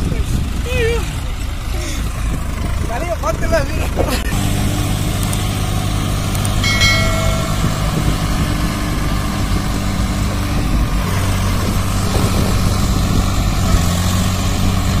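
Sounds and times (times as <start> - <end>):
diesel tractor engines running: 0.0 - 15.0.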